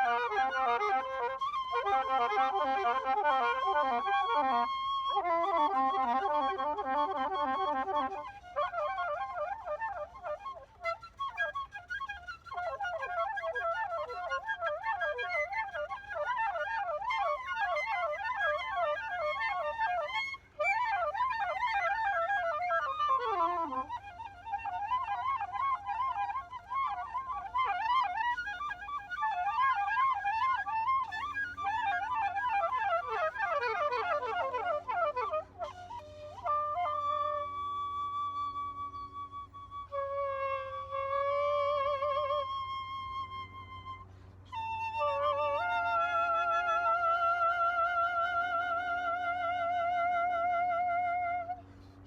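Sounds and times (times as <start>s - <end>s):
flute-like trilling runs: 0.0s - 52.0s.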